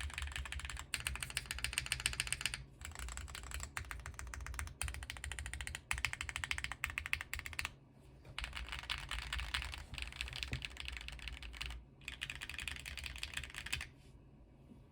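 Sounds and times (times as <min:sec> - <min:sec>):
fast typing on mechanical keyboard: 0:00.0 - 0:07.8, 0:08.4 - 0:13.9.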